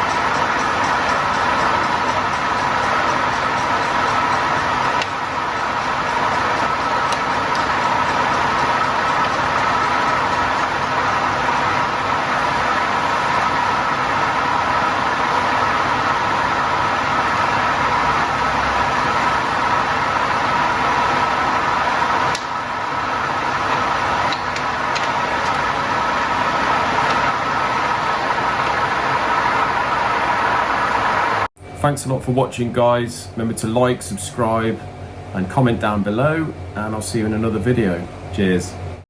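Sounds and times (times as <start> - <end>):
grinding machine drone with whine: 0.0 - 32.0.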